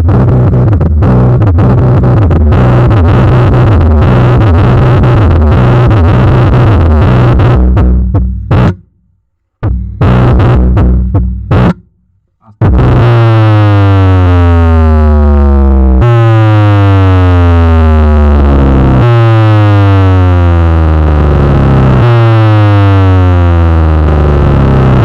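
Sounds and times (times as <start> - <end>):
heavy bass tone: 0.0 - 25.0.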